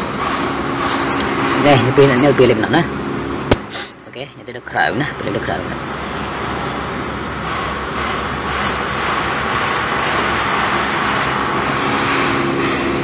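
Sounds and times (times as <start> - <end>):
steady rushing noise: 0.0 - 3.8, 4.6 - 13.0.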